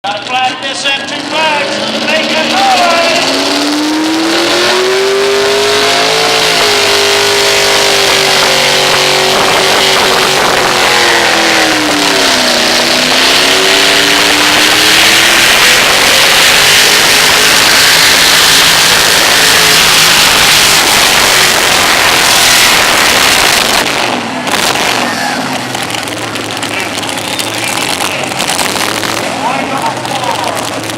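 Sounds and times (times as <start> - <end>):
engine running at high revs: 0.9 - 30.9.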